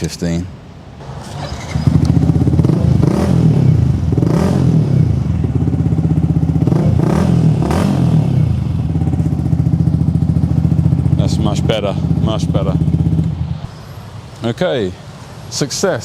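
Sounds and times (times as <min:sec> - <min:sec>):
motorcycle engine idling and revving: 0:01.0 - 0:14.3.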